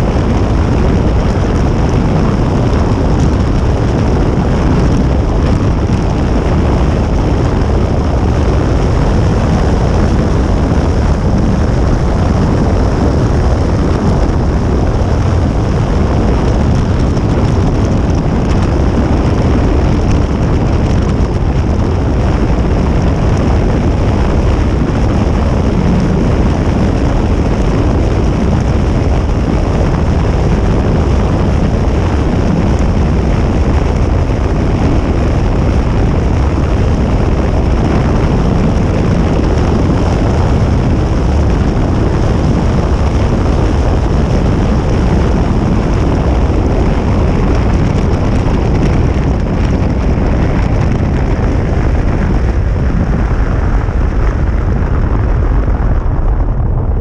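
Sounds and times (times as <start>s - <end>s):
vehicle rumble and rushing: 0.0s - 57.0s.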